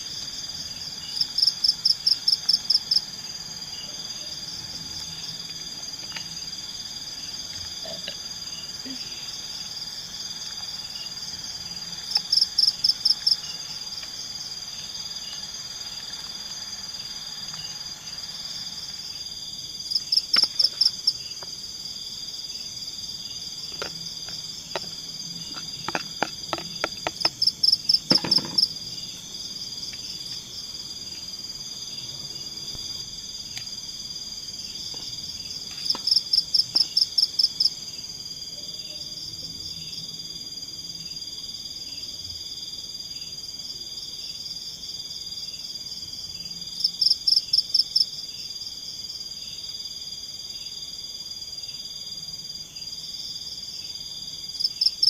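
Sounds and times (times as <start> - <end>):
crickets droning: 0.0 - 55.0
insect rapid chirps: 0.0 - 55.0.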